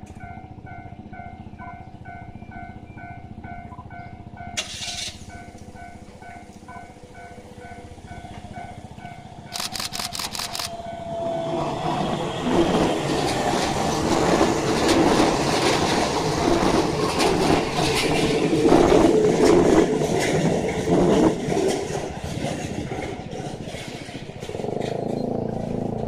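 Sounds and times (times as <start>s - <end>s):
train wheels clattering over rails: 2.7s - 26.0s.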